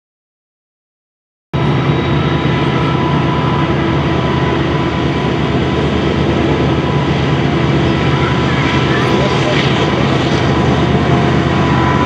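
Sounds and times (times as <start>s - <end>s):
diesel locomotives droning: 1.6s - 12.0s
thin whining tones: 1.8s - 12.0s.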